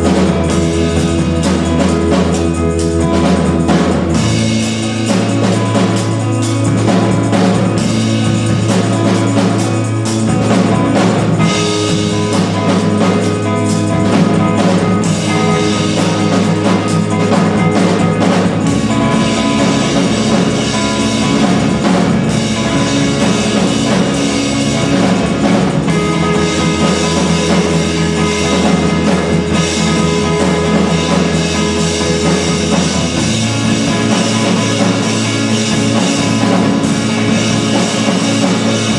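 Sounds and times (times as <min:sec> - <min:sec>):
drum kit beat: 0:00.0 - 0:38.9
low bass notes: 0:00.0 - 0:38.9.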